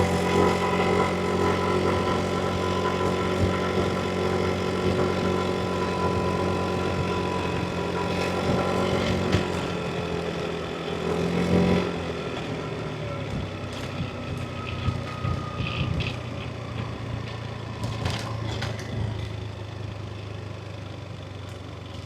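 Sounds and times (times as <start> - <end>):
road noise: 0.0 - 22.0
scooter engine running: 0.0 - 22.0.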